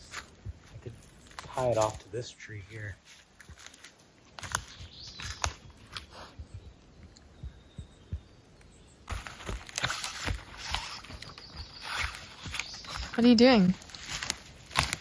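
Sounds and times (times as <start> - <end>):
footsteps on pine needles and twigs: 0.0 - 6.7, 9.1 - 15.0.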